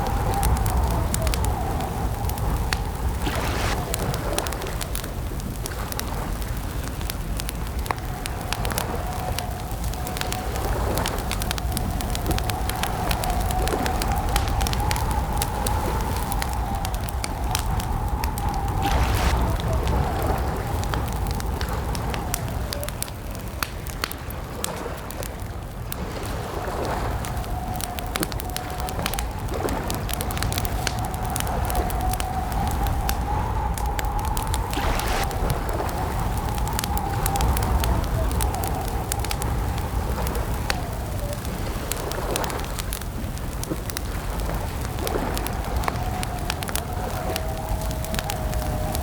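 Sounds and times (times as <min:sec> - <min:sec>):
campfire crackling and popping: 0:00.0 - 0:49.0
faint whistle of wind: 0:00.0 - 0:49.0
low wind rumble: 0:00.0 - 0:49.0.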